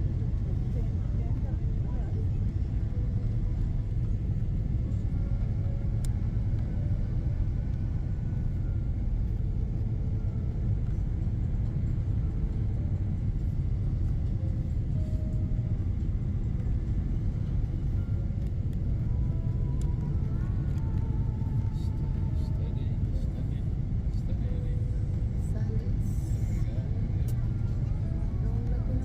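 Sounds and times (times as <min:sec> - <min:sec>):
airliner cabin rumble: 0:00.0 - 0:29.0.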